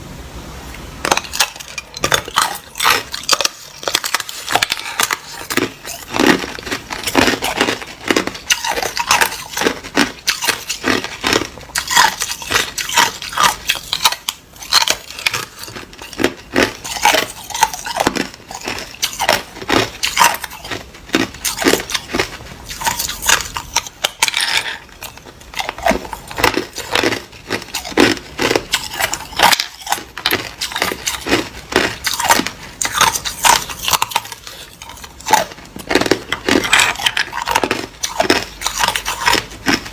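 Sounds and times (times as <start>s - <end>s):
ice crunching while chewed: 1.0s - 39.9s.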